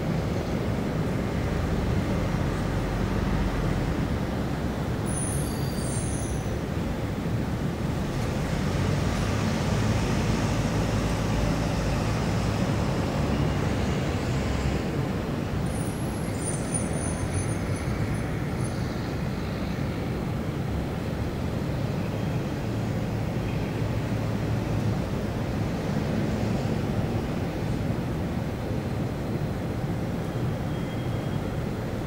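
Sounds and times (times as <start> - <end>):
city traffic rumble: 0.0 - 32.0.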